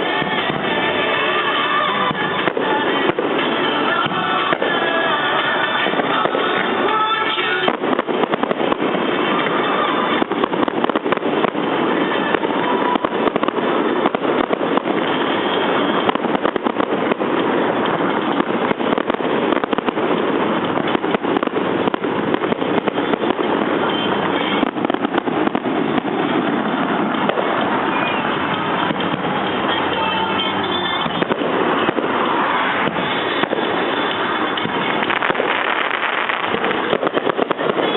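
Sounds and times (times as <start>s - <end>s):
fireworks bangs and crackles: 0.0s - 37.9s.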